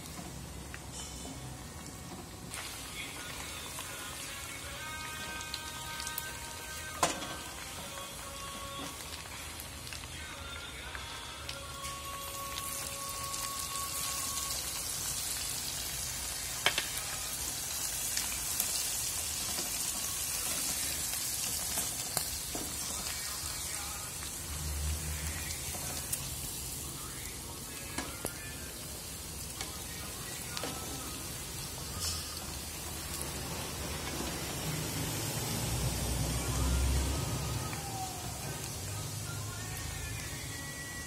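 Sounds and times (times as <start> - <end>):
food deep-frying in hot oil: 0.0 - 41.0.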